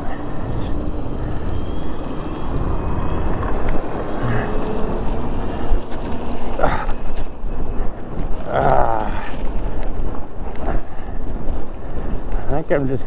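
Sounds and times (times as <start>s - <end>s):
tyres on wet road: 0.0s - 13.0s
wind buffeting microphone: 0.0s - 13.0s.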